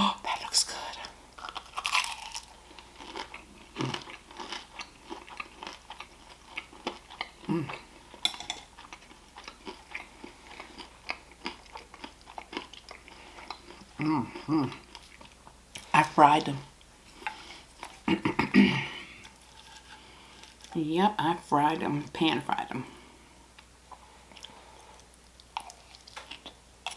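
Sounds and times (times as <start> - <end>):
crunchy food chewing: 1.0 - 18.4, 19.0 - 20.8, 23.5 - 26.9.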